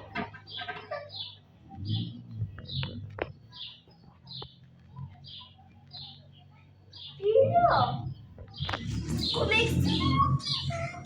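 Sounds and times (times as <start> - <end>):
small bird chirping: 0.4 - 11.0.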